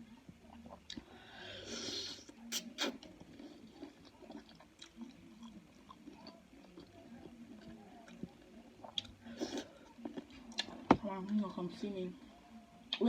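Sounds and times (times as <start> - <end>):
person chewing food: 0.5 - 11.0.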